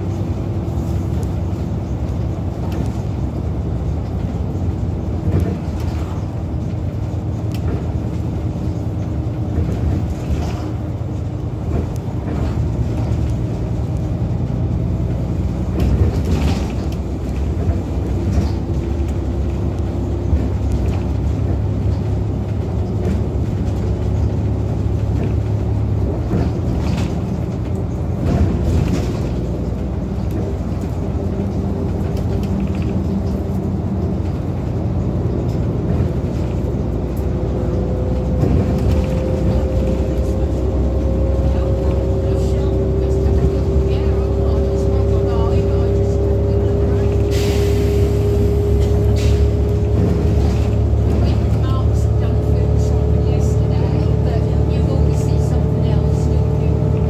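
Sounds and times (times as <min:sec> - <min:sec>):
bus diesel engine rumble: 0:00.0 - 0:57.0.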